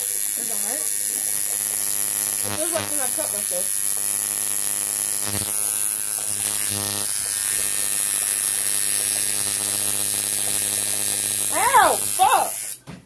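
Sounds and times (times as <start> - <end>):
tattoo machine buzzing: 0.0 - 12.9.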